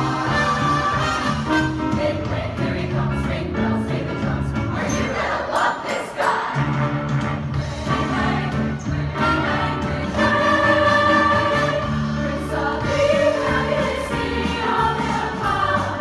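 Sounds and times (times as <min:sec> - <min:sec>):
choir singing held chords: 0:00.0 - 0:07.0, 0:07.6 - 0:16.0.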